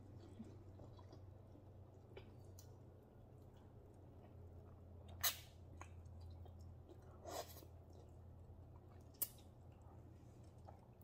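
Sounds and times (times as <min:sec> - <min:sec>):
faint low hum: 0:00.0 - 0:11.0
quiet chewing: 0:00.0 - 0:11.0.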